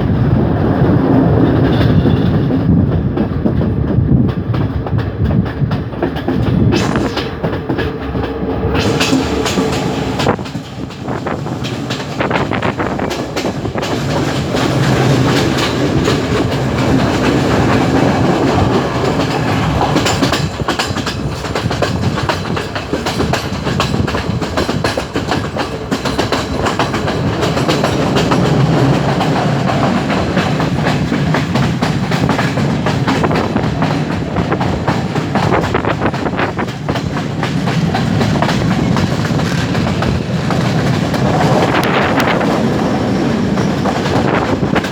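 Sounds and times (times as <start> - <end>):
train rumbling along track: 0.0 - 44.9
train wheels clicking over rails: 0.0 - 44.9.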